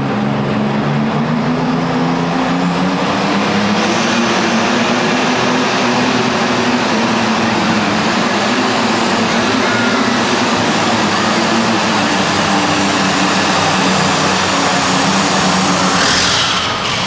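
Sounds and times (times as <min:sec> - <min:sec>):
tractor engine at full power: 0:00.0 - 0:17.0.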